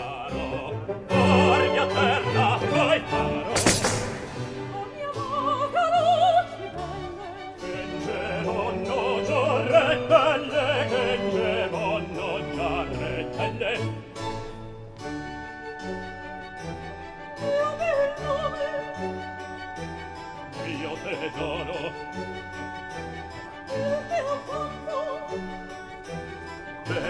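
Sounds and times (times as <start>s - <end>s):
operatic singing with vibrato: 0.0s - 14.7s, 16.3s - 27.0s
orchestral accompaniment: 0.0s - 27.0s.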